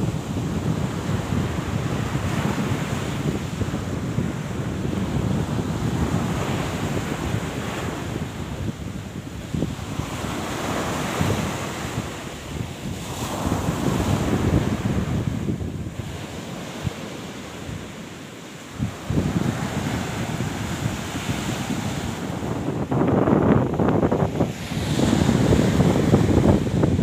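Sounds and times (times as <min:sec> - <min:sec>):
sea surf: 0:00.0 - 0:27.0
wind rumbling on microphone: 0:00.0 - 0:27.0.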